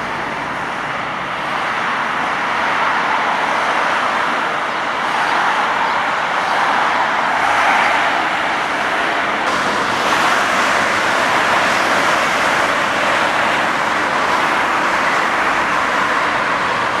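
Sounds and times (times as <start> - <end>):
city road traffic: 0.0 - 17.0.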